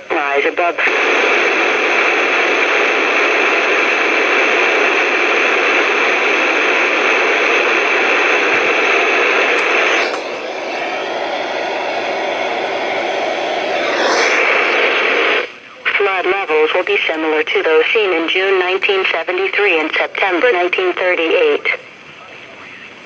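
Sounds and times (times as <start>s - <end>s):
radio static hiss: 0.0s - 11.3s, 12.9s - 23.0s.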